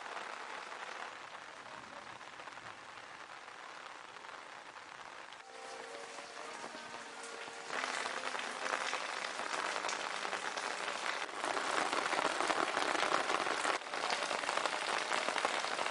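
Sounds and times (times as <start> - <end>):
rain falling on leaves: 0.0 - 15.9.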